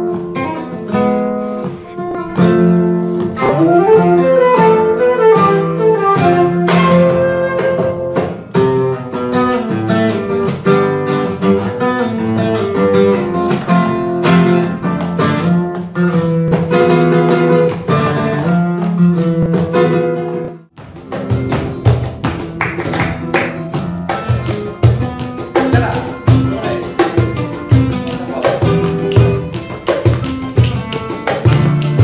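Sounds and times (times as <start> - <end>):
live fusion ensemble: 0.0 - 18.3, 19.6 - 32.0
flamenco guitar runs and strummed chords: 0.0 - 32.0.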